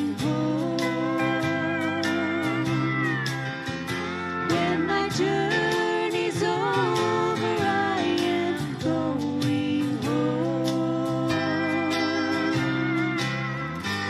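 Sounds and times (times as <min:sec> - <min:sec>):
women singing a country duet: 0:00.0 - 0:13.6
guitar and steady beat: 0:00.0 - 0:14.0.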